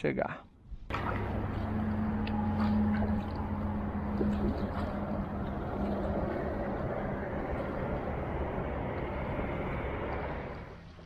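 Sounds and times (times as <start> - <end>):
road traffic on bridge: 0.7 - 11.0.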